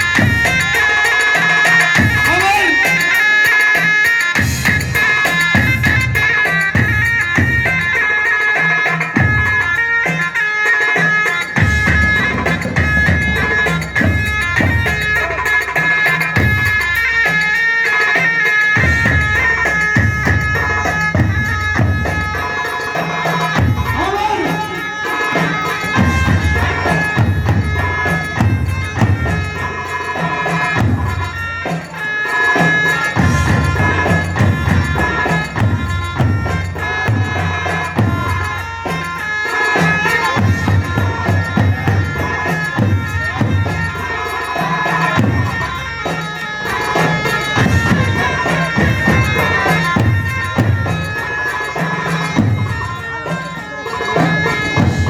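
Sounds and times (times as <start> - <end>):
drum beating: 0.0 - 55.0
reedy wind instrument melody: 0.0 - 55.0.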